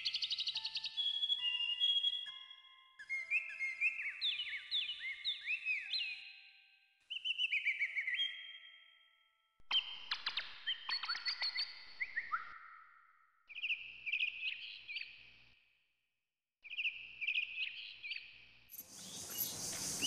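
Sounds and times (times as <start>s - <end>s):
bird-like chirping and trills: 0.0s - 15.4s, 16.7s - 20.0s.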